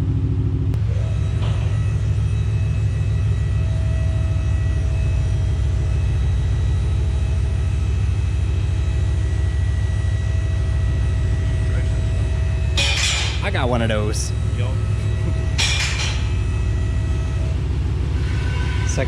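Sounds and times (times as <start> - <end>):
car engine idling: 0.0 - 18.2
faint short rising whine: 0.0 - 19.0.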